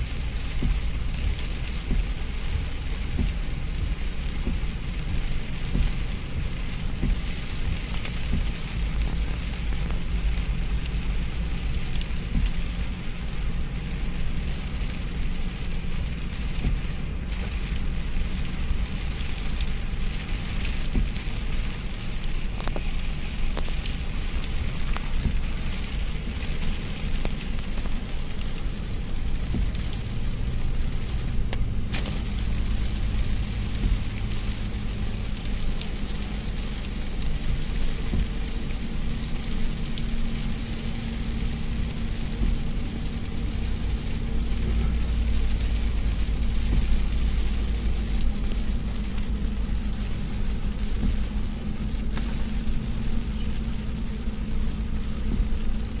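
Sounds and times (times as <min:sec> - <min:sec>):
car driving on wet road: 0:00.0 - 0:56.0
heavy rain on car roof: 0:00.0 - 0:56.0.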